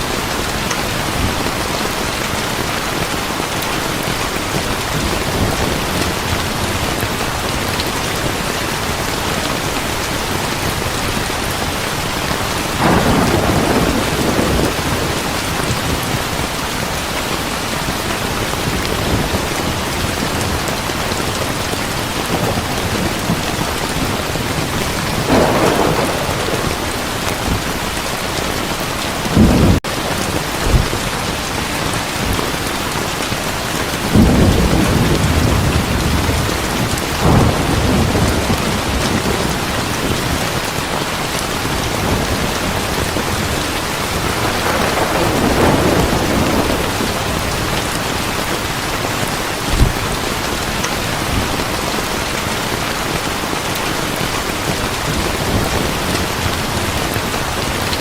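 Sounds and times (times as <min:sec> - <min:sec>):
thunder rumbling: 0:00.0 - 0:32.7, 0:33.4 - 0:53.2
heavy rain: 0:00.0 - 0:58.0.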